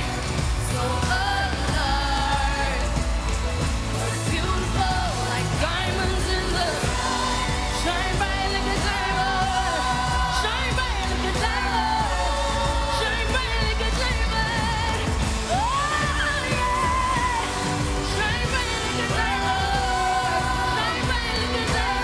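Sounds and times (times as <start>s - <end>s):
band with low bass: 0.0s - 22.0s
woman singing into a microphone: 0.0s - 22.0s.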